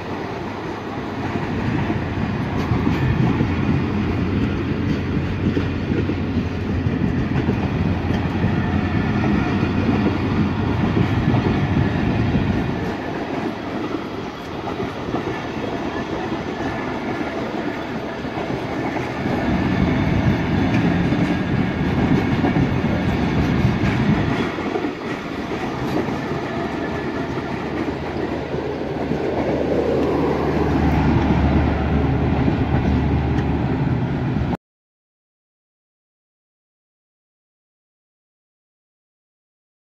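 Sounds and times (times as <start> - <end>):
train wheels rumbling on track: 0.0 - 34.6.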